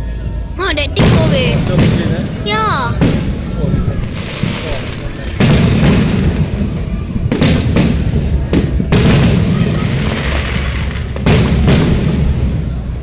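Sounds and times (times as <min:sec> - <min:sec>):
rumbling echo: 0:00.0 - 0:13.0
fireworks bangs: 0:00.6 - 0:13.0.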